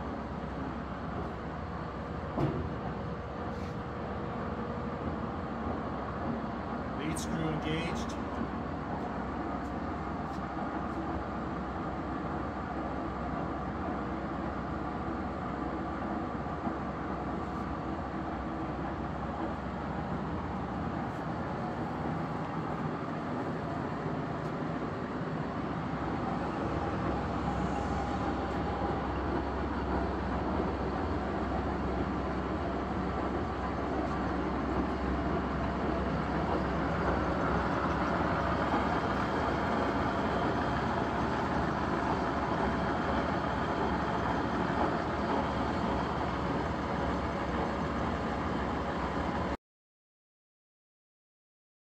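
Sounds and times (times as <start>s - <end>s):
heavy machinery hum and rumble: 0.0s - 49.6s.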